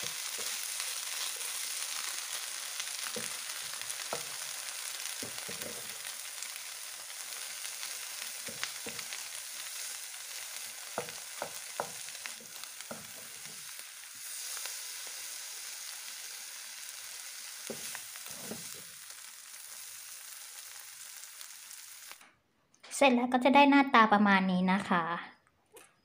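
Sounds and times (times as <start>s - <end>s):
food sizzling in hot oil: 0.0s - 22.2s.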